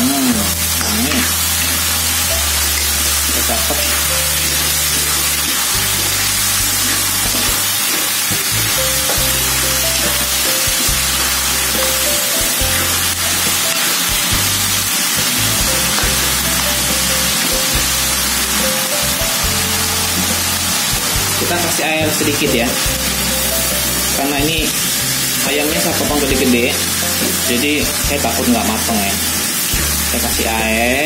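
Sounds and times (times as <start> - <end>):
background music with bass: 0.0 - 31.0
chicken sizzling in a wok: 0.0 - 31.0
metal spatula stir-frying: 0.1 - 31.0.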